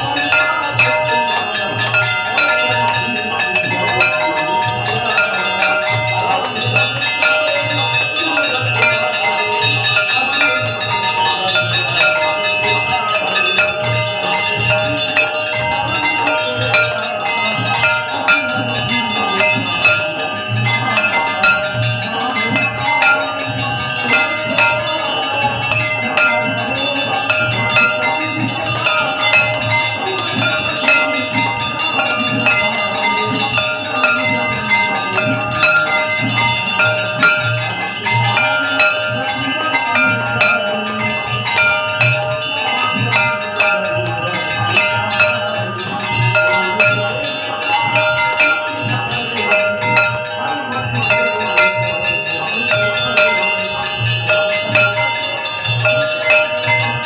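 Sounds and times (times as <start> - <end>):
temple bells and chimes ringing: 0.0 - 57.0.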